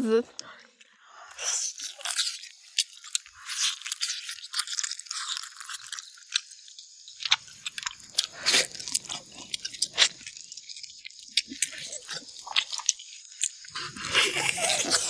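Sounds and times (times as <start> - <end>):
sucking at bone: 1.2 - 6.5, 7.2 - 15.0
bone crunches: 1.4 - 15.0
chewing meat off bones: 1.5 - 15.0.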